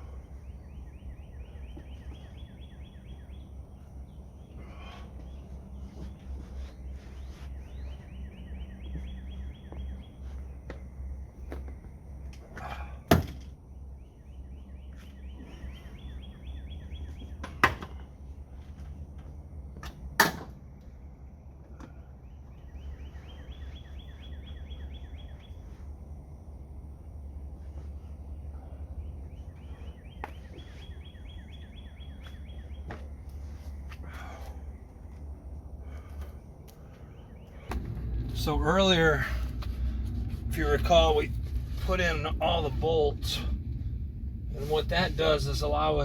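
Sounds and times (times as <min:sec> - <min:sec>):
songbird singing: 0:00.0 - 0:46.0
steady low hum: 0:00.0 - 0:46.0
steady low rumble: 0:00.0 - 0:46.0.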